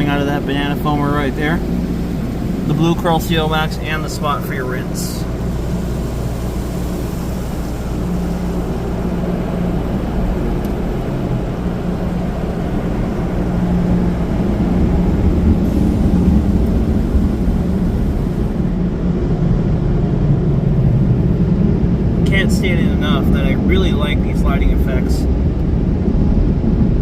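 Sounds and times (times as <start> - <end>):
car wash equipment drone: 0.0 - 27.0
low hum: 0.0 - 27.0.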